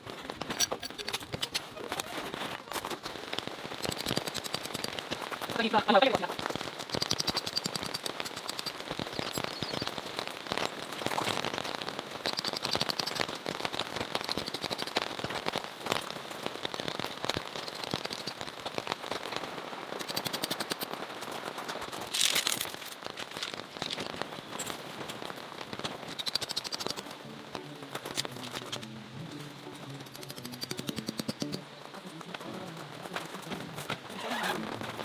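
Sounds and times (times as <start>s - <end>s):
steady rain patter: 0.0s - 35.0s.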